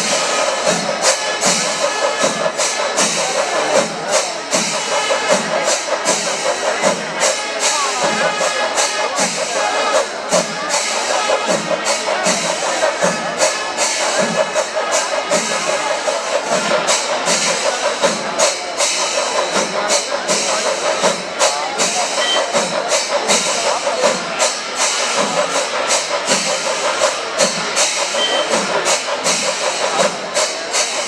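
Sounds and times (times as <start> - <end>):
drum and cymbal rhythm: 0.0 - 31.0.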